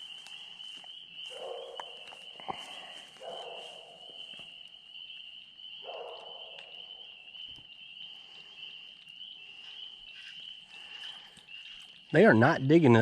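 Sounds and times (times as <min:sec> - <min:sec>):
chorus of trilling animals: 0:00.0 - 0:13.0.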